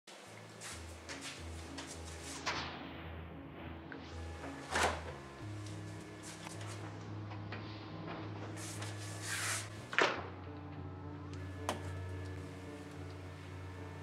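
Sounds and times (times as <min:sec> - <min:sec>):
background music with bass line: 0:00.4 - 0:14.0.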